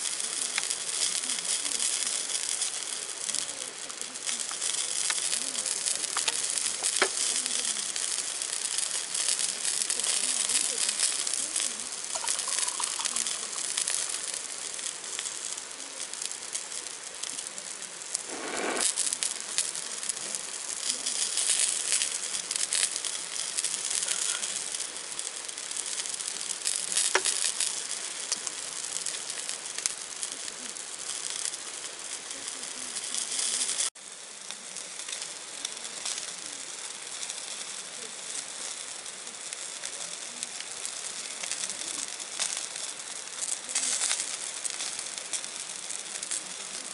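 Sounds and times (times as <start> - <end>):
fine crackles: 0.0 - 46.9
food sizzling in a pan: 0.0 - 46.9.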